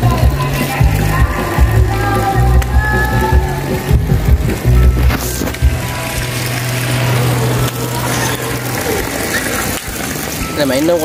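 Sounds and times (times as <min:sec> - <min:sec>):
music with heavy bass: 0:00.0 - 0:09.0.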